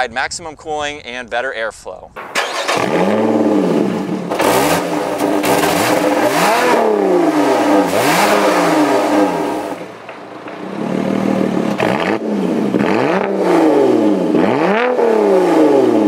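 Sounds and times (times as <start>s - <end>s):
car engine revving: 2.2s - 16.0s.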